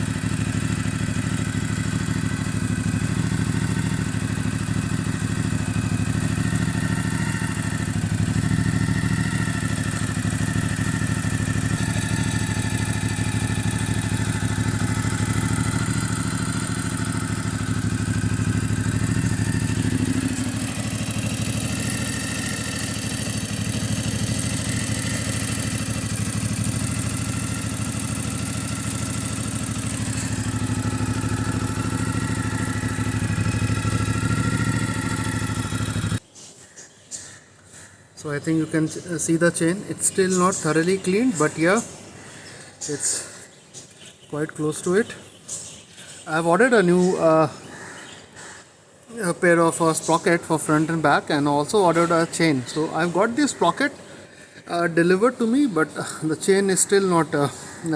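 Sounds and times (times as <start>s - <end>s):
motorcycle engine idling: 0.0s - 36.2s, 38.3s - 48.6s, 49.2s - 57.9s.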